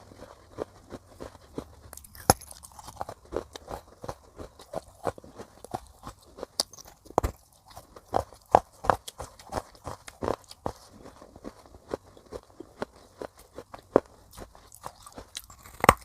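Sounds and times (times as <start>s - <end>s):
dry gritty chewing crunches: 0.0s - 16.0s.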